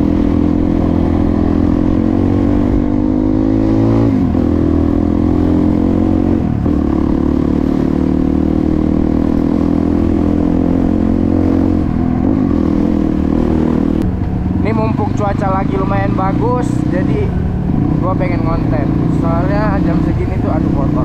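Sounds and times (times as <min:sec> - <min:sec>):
motorcycle engine shifting gears: 0:00.0 - 0:21.0.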